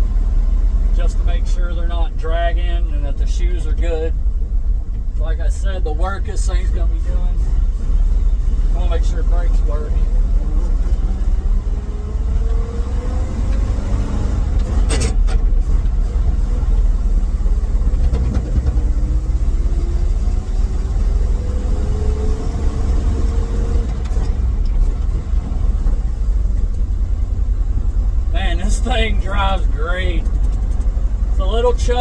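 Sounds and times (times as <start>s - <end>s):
truck engine accelerating: 0.0s - 32.0s.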